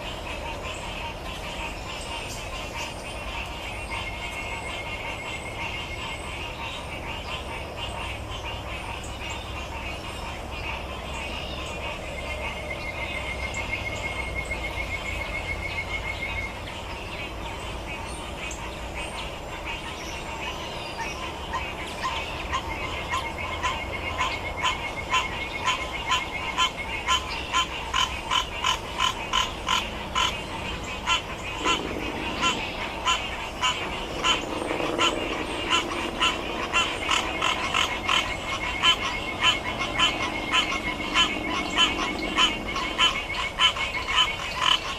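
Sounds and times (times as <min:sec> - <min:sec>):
frog calling: 0:00.0 - 0:44.9.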